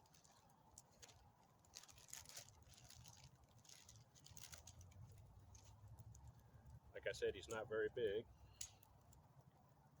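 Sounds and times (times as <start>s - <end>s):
faint rustling and crackling: 0.0s - 10.0s.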